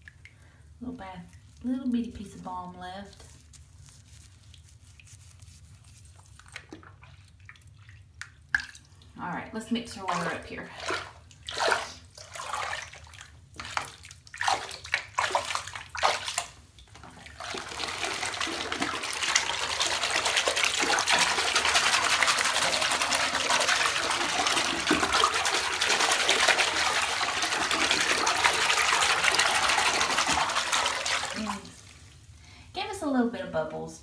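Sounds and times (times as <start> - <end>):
bathwater sloshing by hand: 3.0 - 9.2, 9.8 - 32.4.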